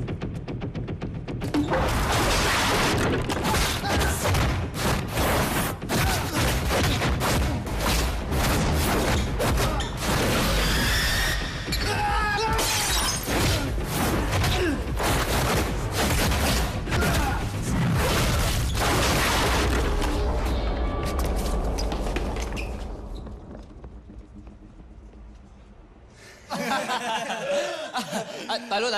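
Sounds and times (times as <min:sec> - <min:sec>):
music: 0:00.0 - 0:26.5.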